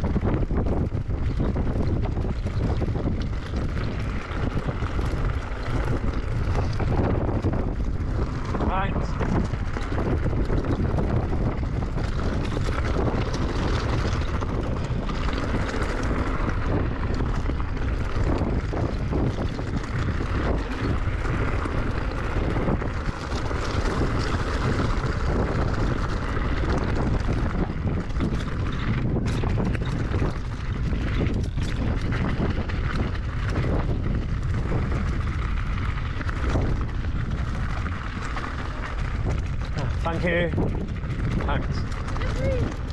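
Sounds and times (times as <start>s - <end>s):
bike knocking and rattling: 0.0s - 42.9s
wind buffeting microphone: 0.0s - 42.9s.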